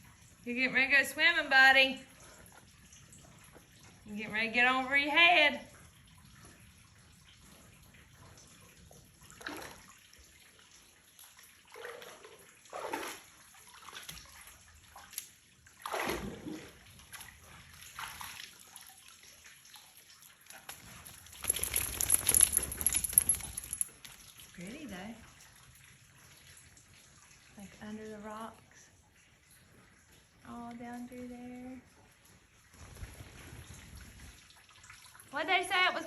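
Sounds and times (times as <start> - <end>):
water sloshing and splashing: 5.7 - 30.6, 31.8 - 35.8.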